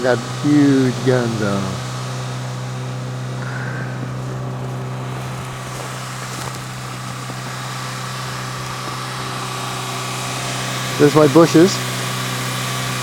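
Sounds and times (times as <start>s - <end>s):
low machine drone: 0.0s - 13.0s.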